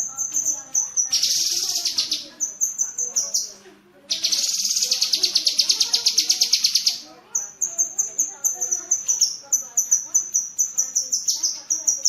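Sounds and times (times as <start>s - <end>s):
songbird chattering and trilling: 0.0s - 12.0s.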